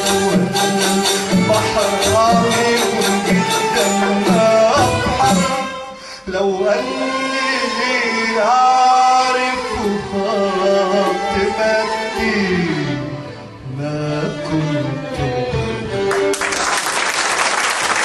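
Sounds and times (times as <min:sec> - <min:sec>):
man singing with vibrato: 0:00.0 - 0:16.2.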